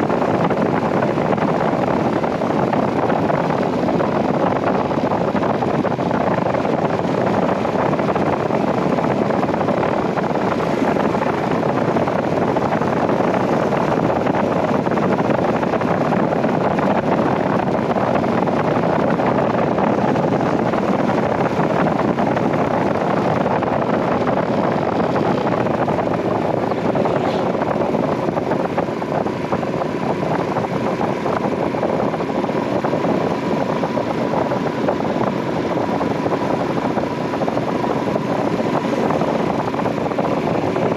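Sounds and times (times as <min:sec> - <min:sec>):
motorcycle engine cruising: 0:00.0 - 0:40.9
road noise: 0:00.0 - 0:40.9
wind rushing: 0:00.0 - 0:40.9.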